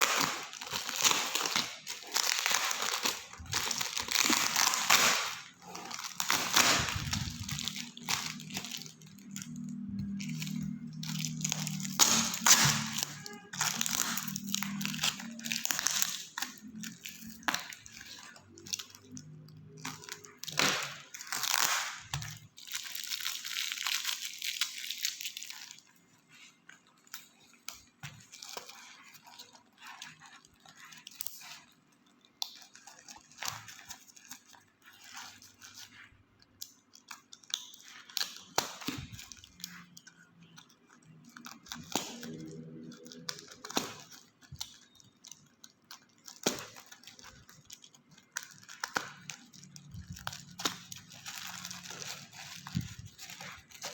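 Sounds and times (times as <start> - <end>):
packaging crackling and clicks: 0.0 - 53.9
packaging tearing: 0.0 - 53.9.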